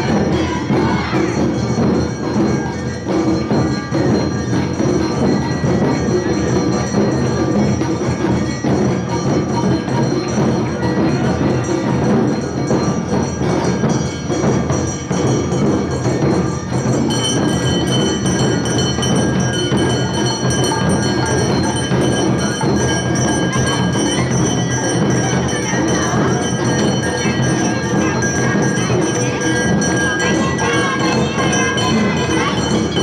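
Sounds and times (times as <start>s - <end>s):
clanging bell: 0.0s - 33.0s
drums beating: 0.0s - 33.0s
ringing high tones: 0.0s - 33.0s.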